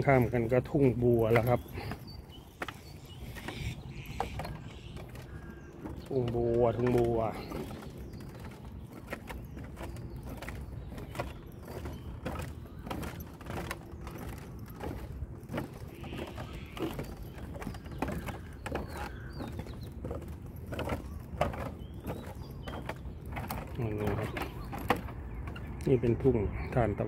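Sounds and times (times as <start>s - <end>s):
light clicks and knocks: 0.0s - 26.8s.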